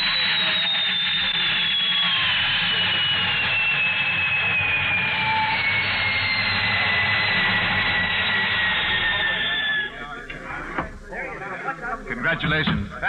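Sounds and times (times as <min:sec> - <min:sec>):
jet roar with falling whine: 0:00.0 - 0:11.1.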